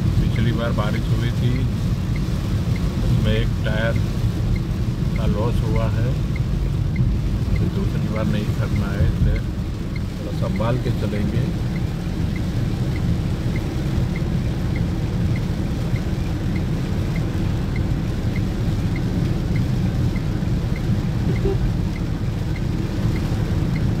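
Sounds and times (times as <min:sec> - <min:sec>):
rain on car body: 0:00.0 - 0:24.0
tyres rumbling on wet road: 0:00.0 - 0:24.0
indicator relay ticking: 0:01.3 - 0:24.0.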